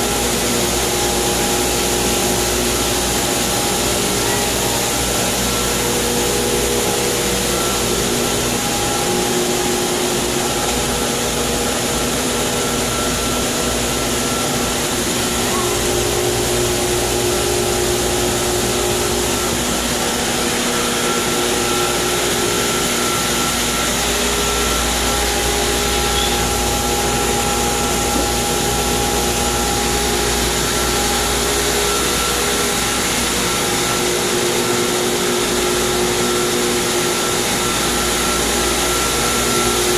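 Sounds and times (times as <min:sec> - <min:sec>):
pool pumps humming: 0:00.0 - 0:39.9
water rushing through pipes: 0:00.0 - 0:39.9
whining tones: 0:03.7 - 0:39.9.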